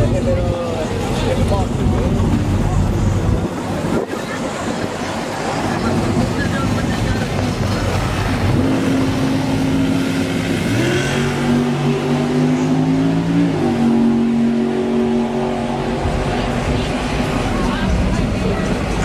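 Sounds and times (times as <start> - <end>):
vehicle engine at steady revs: 0.0 - 19.0.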